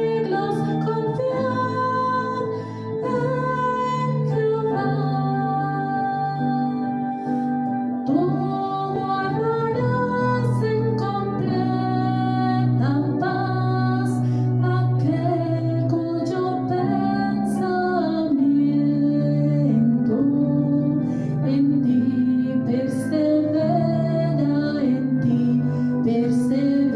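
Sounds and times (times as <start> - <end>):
sustained chords: 0.0 - 26.9
woman singing slow melody: 0.0 - 26.9.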